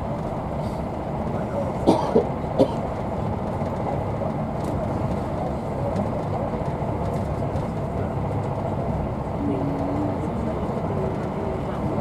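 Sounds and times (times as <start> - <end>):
train coach rumble and rush: 0.0 - 12.0.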